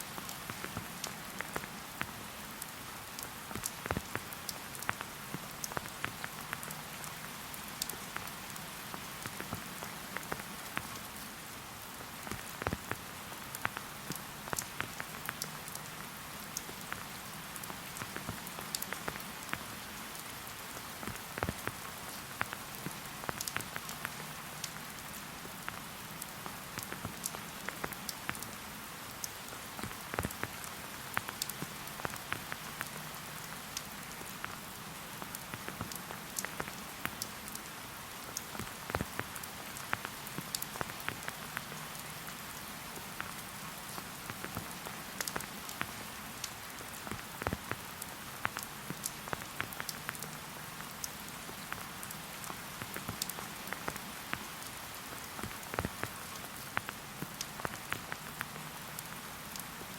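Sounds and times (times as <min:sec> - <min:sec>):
steady rain hiss: 0:00.0 - 0:59.9
raindrops ticking: 0:00.1 - 0:59.9.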